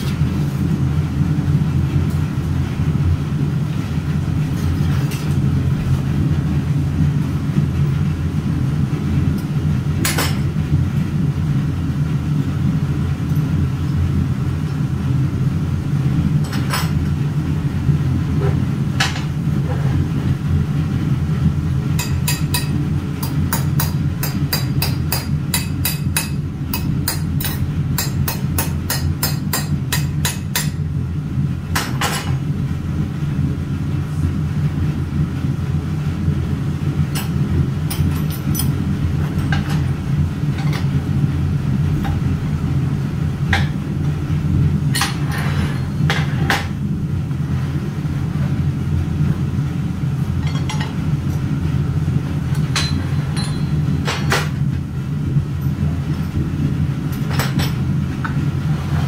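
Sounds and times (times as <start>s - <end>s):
workshop machinery hum: 0.0s - 59.0s.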